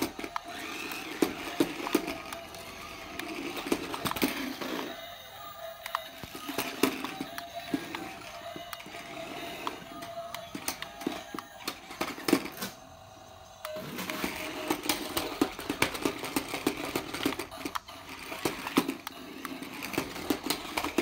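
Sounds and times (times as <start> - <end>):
plastic wheels clattering on tiles: 0.0 - 5.0, 5.8 - 12.8, 13.7 - 21.0
toy car motors buzzing: 0.0 - 21.0.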